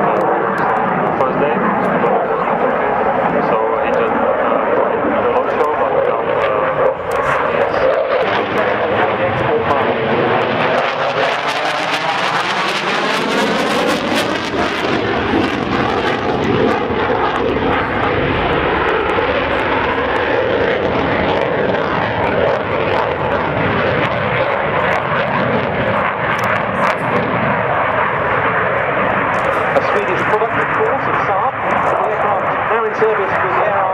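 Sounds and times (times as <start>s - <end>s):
jet engine roaring: 0.0s - 33.9s.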